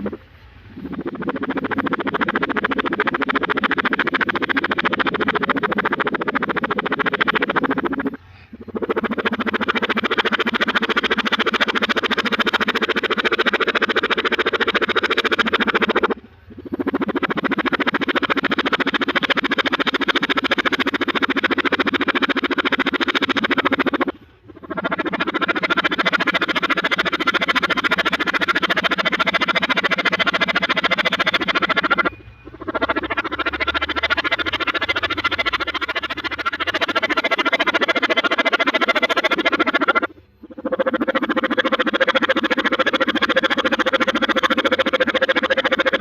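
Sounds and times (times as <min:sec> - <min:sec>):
fluttering electronic pulse: 0:00.0 - 0:46.0.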